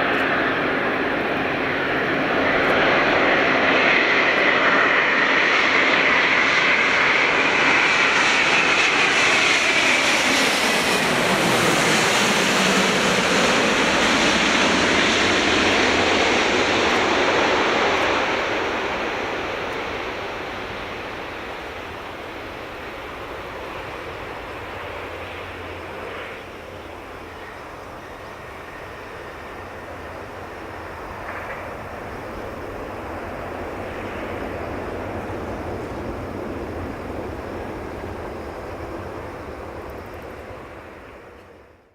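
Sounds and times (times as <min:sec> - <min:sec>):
jet airliner passing overhead: 0:00.0 - 0:41.9.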